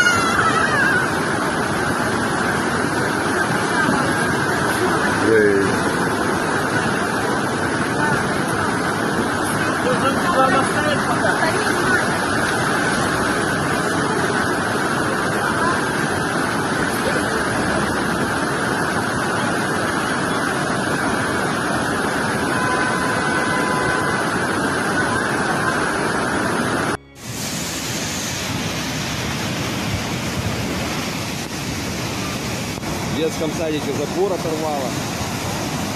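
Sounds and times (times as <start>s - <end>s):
floodwater rushing: 0.0s - 35.9s.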